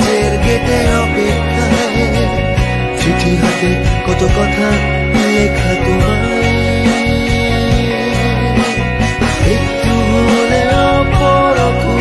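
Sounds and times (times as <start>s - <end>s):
instrumental song with bass and beat: 0.0s - 12.0s.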